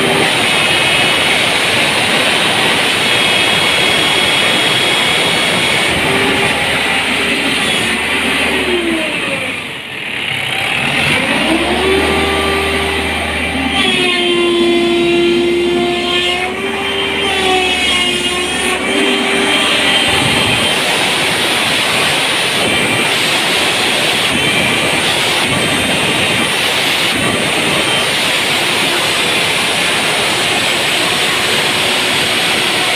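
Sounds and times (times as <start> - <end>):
crane engine whining: 0.0 - 32.9.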